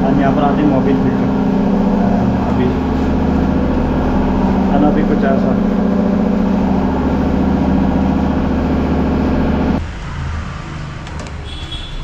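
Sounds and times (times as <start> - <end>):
loud mechanical engine hum: 0.0 - 10.2.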